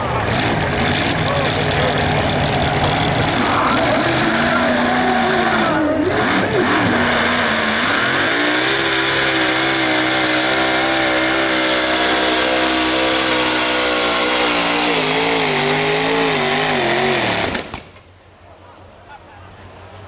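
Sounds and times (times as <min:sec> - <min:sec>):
tractor engine revving: 0:00.0 - 0:18.2.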